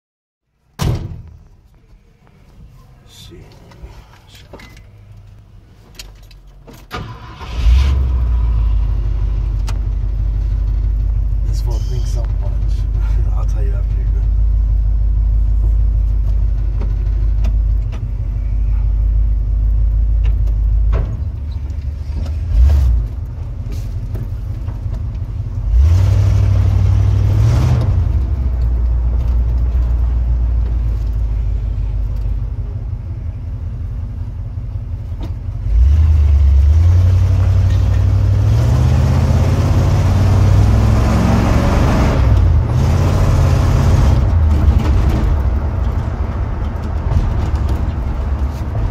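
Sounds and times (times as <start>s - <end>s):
truck engine idling and revving: 3.1s - 48.9s.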